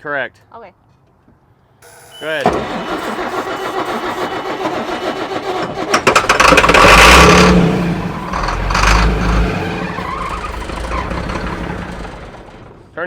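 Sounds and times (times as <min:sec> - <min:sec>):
truck engine starter cranking: 0:01.8 - 0:13.0
truck engine revving hard: 0:02.2 - 0:13.0.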